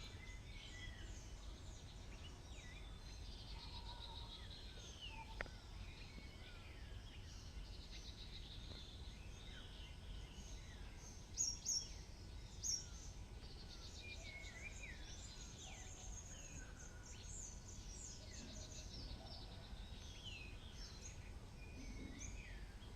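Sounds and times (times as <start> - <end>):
birds singing and chirping: 0.0 - 22.9
faint low rumble: 0.0 - 22.9.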